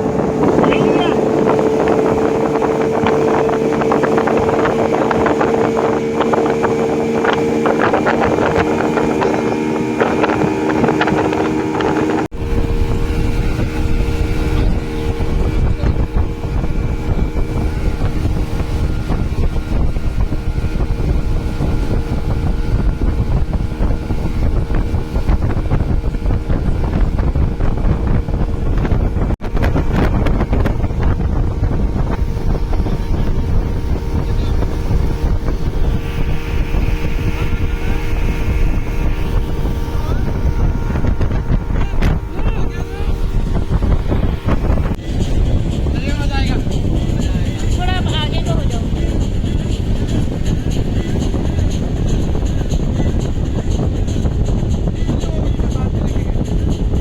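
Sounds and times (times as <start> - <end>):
motorboat engine running: 0.0 - 57.0
wind buffeting microphone: 0.0 - 57.0.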